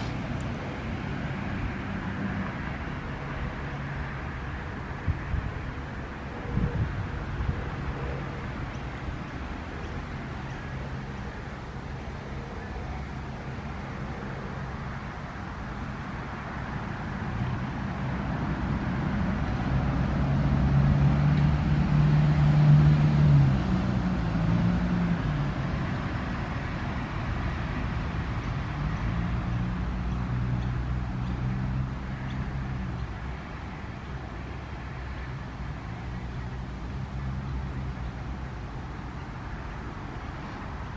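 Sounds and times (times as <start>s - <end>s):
outdoor noise: 0.0s - 40.9s
vehicle engine hum: 0.0s - 40.9s.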